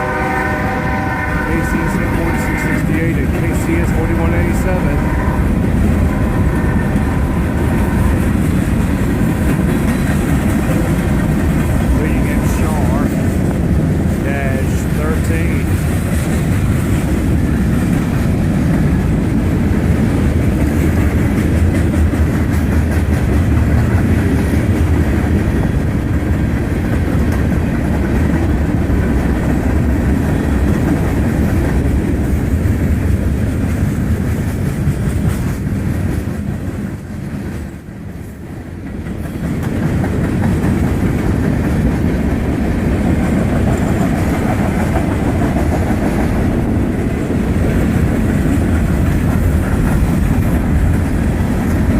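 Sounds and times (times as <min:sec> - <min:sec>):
freight train cars rolling: 0:00.0 - 0:51.9
wheels clacking over rail joints: 0:00.0 - 0:51.9.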